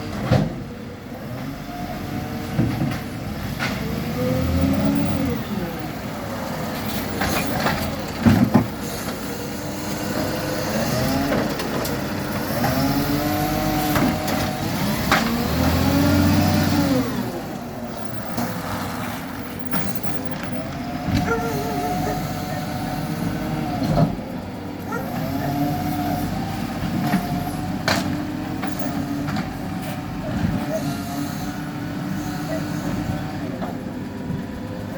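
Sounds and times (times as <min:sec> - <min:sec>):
truck engine revving: 0:01.1 - 0:34.9.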